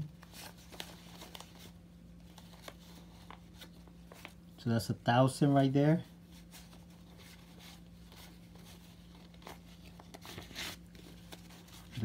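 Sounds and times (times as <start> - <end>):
banknotes rustling: 0.0 - 4.5, 5.4 - 12.0.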